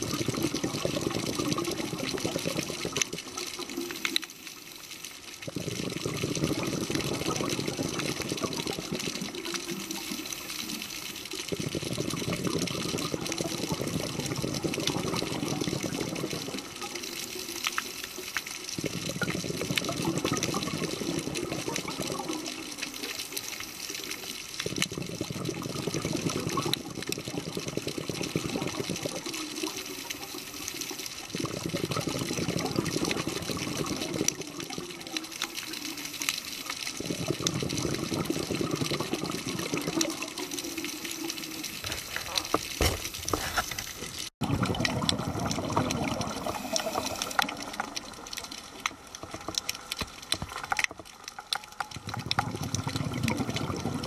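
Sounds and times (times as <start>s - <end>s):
bubbling exhale: 0.0s - 50.5s, 51.8s - 54.0s.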